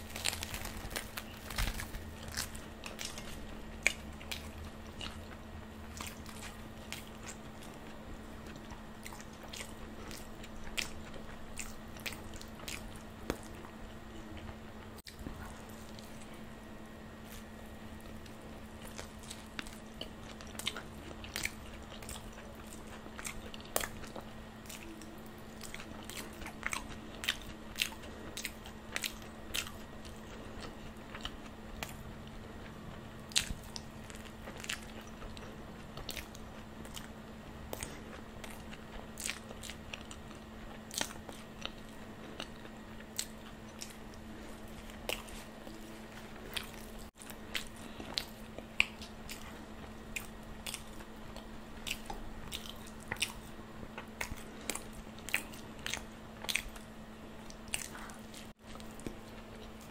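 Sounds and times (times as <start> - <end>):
crunchy chewing: 0.0 - 59.9
steady low hum: 0.0 - 59.9.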